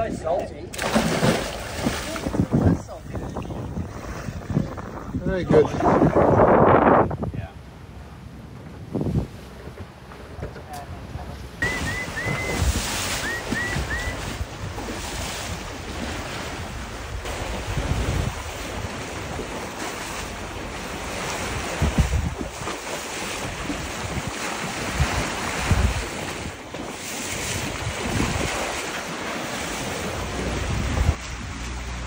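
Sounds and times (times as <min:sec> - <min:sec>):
sea water rushing past boat: 0:00.6 - 0:32.0
wind buffeting microphone: 0:01.0 - 0:10.3, 0:11.1 - 0:32.0.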